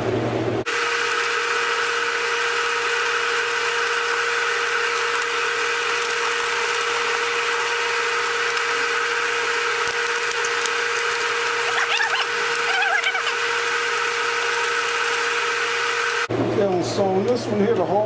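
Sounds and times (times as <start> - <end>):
small power tool whining: 0.7 - 16.3.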